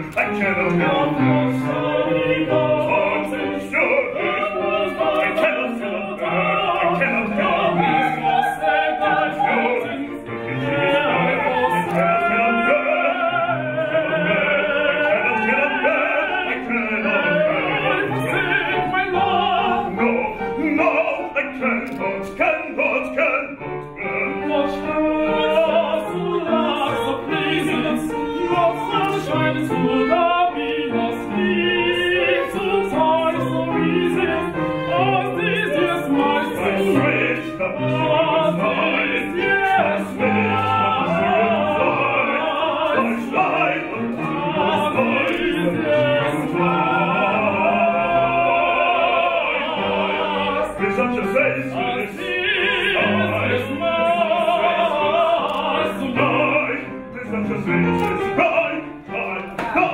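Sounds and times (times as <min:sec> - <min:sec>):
man and woman singing operatic duet: 0:00.0 - 0:59.9.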